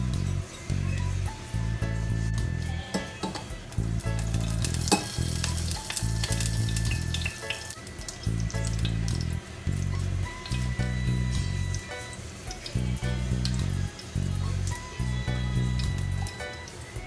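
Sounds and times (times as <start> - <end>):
background music with bass: 0.0 - 17.0
spices sizzling in saucepan: 0.0 - 17.0.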